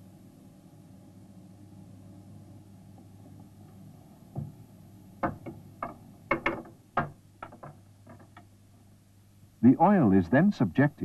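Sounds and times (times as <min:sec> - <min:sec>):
low steady mechanical hum: 0:00.0 - 0:11.0.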